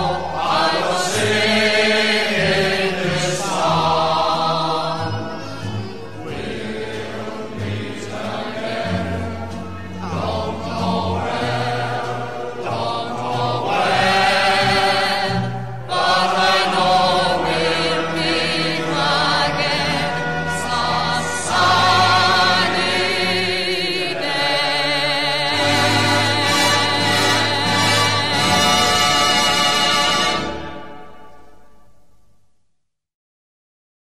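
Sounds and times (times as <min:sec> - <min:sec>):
choir singing with vibrato: 0:00.0 - 0:31.7.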